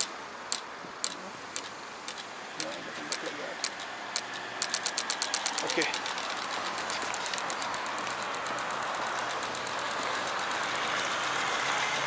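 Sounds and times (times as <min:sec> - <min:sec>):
crossing signal ticking: 0:00.0 - 0:12.0
road traffic rushing: 0:00.0 - 0:12.0.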